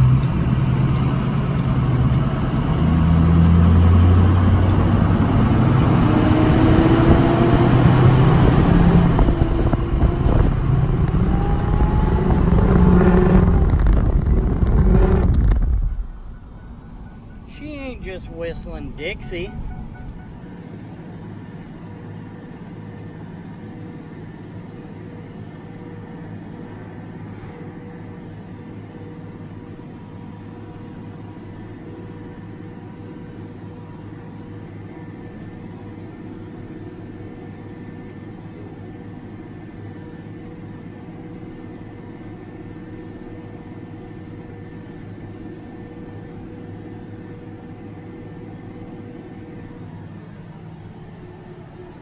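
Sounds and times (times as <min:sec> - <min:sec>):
tractor engine drone: 0:00.0 - 0:52.0.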